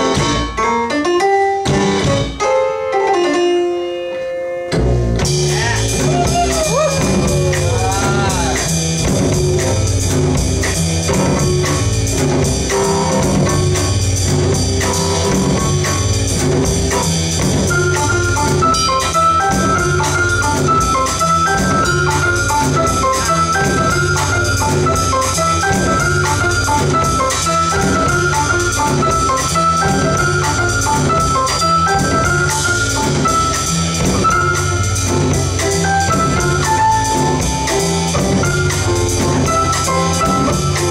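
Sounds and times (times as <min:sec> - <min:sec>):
double bass: 0:00.0 - 0:00.7, 0:01.6 - 0:02.5, 0:04.7 - 0:40.9
drum kit: 0:00.0 - 0:40.9
upright piano: 0:00.0 - 0:40.9.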